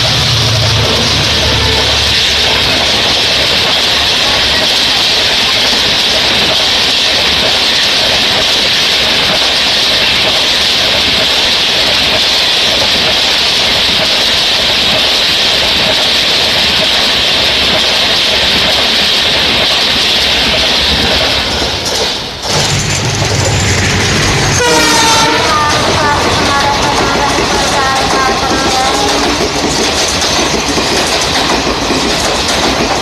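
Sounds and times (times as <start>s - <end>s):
low train rumble: 0.0s - 33.0s
train passing at speed: 0.0s - 33.0s.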